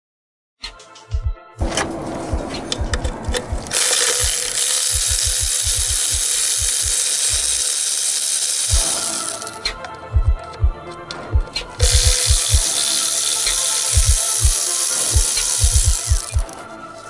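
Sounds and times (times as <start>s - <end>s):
background music beat: 0.6s - 17.0s
power ratchet running: 1.6s - 10.6s, 11.4s - 16.6s.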